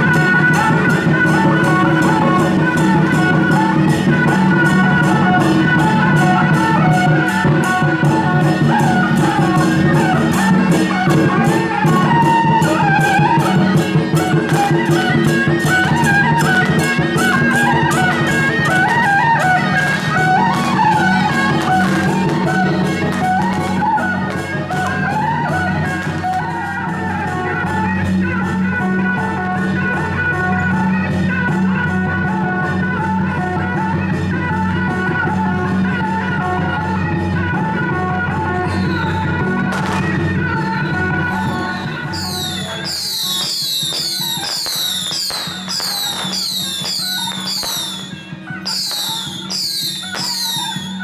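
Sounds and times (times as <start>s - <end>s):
fast percussion beat: 0.0s - 51.0s
reedy wind melody: 0.0s - 51.0s.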